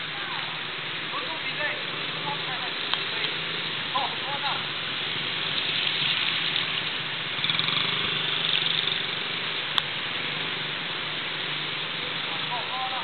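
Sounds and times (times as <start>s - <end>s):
minibike engine running: 0.9s - 13.0s.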